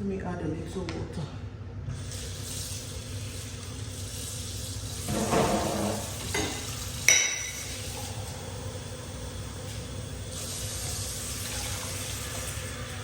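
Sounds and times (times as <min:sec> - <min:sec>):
water running from a tap: 0:02.0 - 0:13.0.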